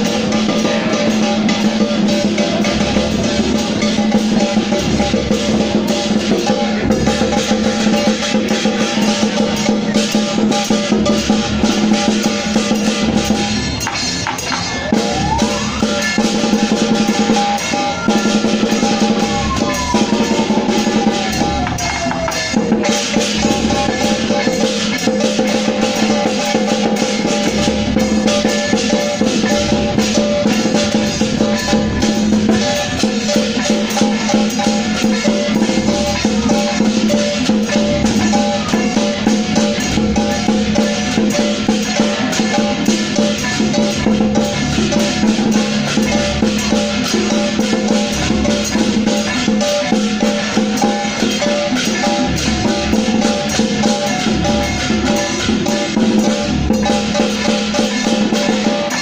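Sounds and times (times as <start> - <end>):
drumming and percussion: 0.0 - 59.0.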